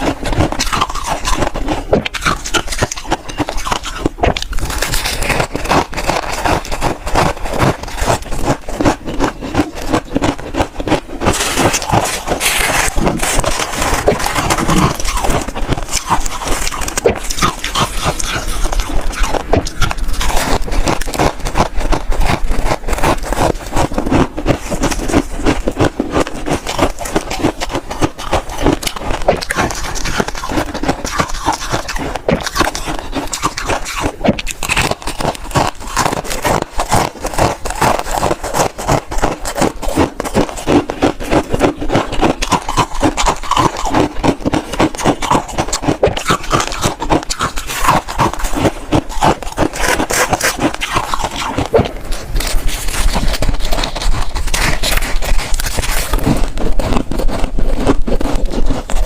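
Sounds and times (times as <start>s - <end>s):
chewing crunchy frost: 0.0s - 59.0s.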